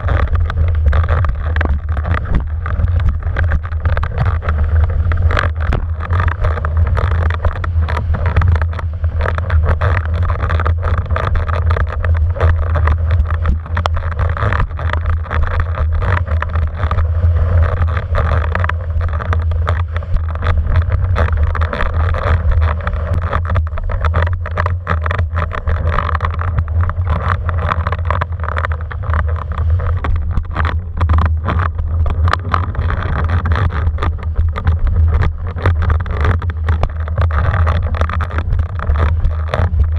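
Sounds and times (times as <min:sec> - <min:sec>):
rushing water: 0:00.0 - 0:39.9
water slaps and spray: 0:00.0 - 0:39.9
wind buffeting microphone: 0:00.0 - 0:39.9.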